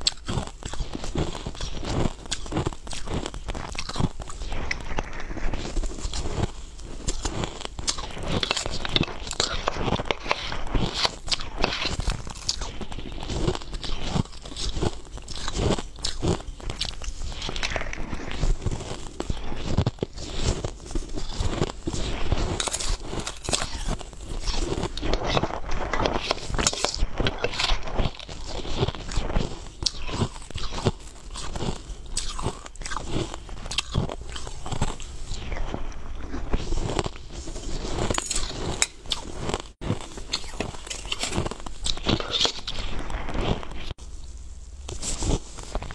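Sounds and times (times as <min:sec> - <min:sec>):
chewing crushed ice: 0:00.0 - 0:45.9.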